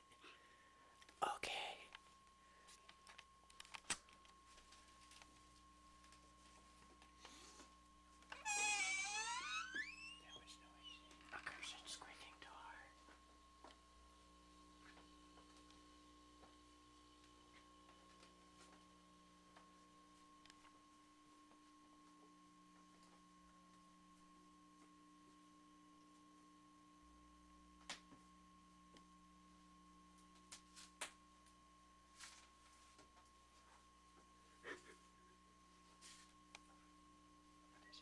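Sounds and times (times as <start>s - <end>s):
electrical hum and whine: 0.0s - 38.0s.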